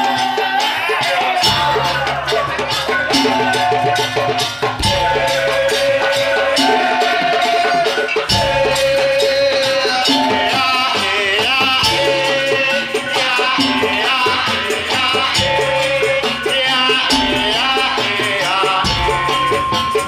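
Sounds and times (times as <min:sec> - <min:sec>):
drums: 0:00.0 - 0:20.0
percussion ensemble music: 0:00.0 - 0:20.0
rattling shakers: 0:00.0 - 0:20.0.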